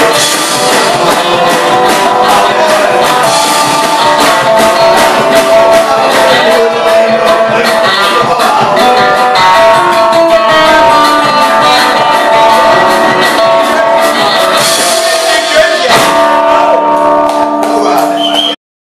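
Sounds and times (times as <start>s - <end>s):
guitar playing: 0.0s - 18.6s.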